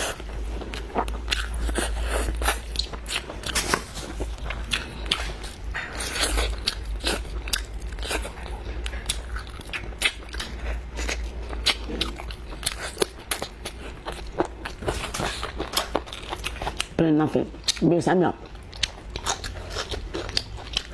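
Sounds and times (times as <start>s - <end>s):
chewing crunchy food: 0.0s - 20.9s.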